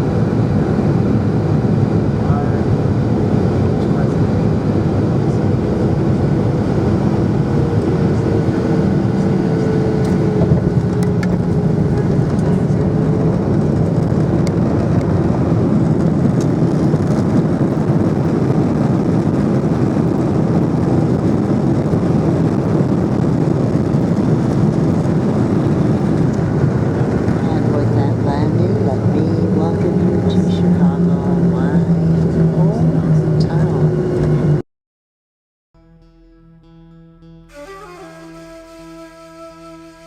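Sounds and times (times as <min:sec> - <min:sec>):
jet engine roar in cabin: 0:00.0 - 0:34.6.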